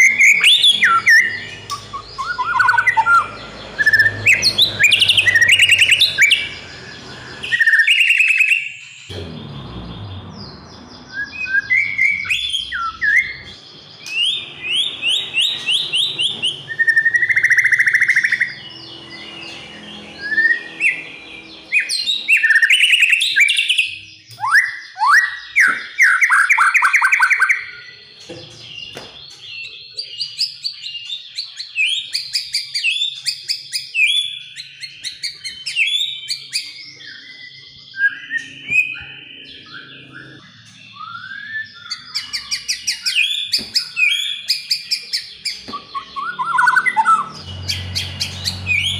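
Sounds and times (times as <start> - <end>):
bird singing varied song: 0.0 - 48.9.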